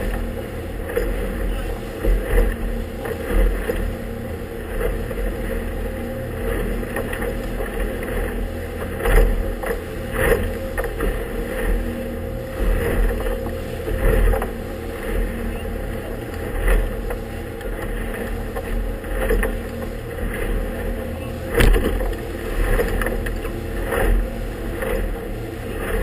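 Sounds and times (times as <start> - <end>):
hull slapping waves: 0.0 - 26.0
motorboat motor running: 0.0 - 26.0.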